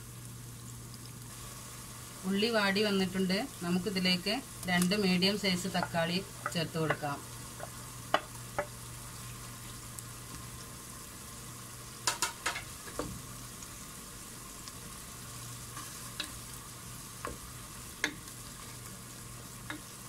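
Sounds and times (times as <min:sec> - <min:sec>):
onions sizzling in a pan: 0:00.0 - 0:20.0.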